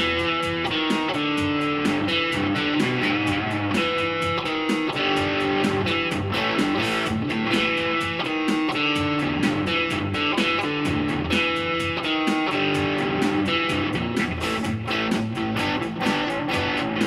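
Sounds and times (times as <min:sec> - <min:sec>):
electric guitar playing melody: 0:00.0 - 0:17.0.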